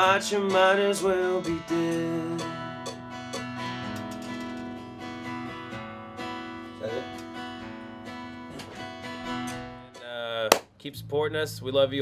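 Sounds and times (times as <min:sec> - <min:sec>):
band playing country-rock: 0:00.0 - 0:09.8
acoustic guitar strumming: 0:00.0 - 0:10.8.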